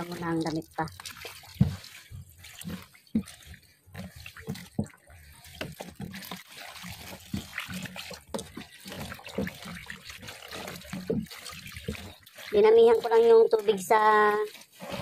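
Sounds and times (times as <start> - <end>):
wet clothes splashing in water: 0.0 - 15.0.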